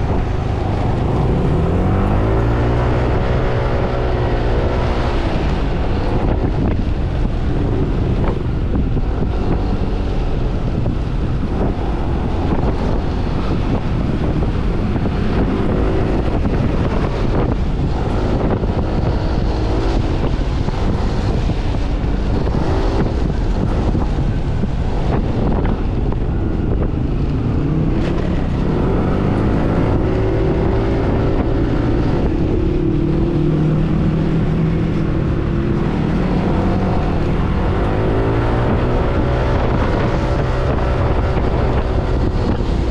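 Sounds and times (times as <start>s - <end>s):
wind noise on microphone: 0.0s - 42.9s.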